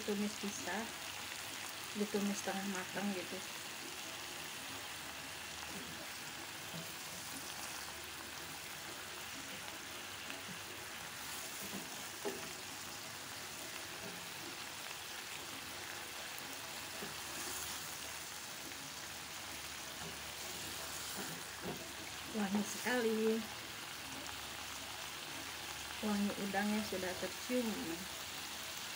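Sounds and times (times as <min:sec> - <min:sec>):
food sizzling in a pan: 0:00.0 - 0:28.9.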